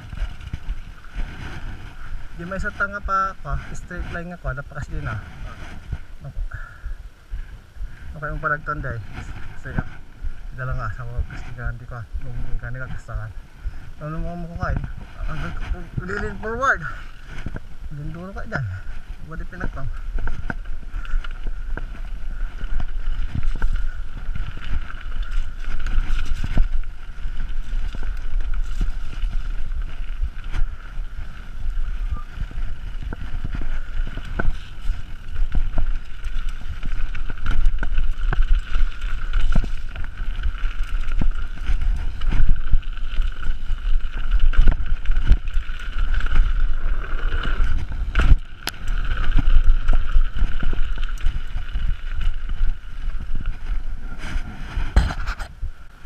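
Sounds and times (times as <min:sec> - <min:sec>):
bike knocking and rattling: 0:00.0 - 0:06.2, 0:07.4 - 0:56.0
wind rushing over microphone: 0:00.0 - 0:56.0
tyres rumbling on dirt: 0:08.0 - 0:56.0.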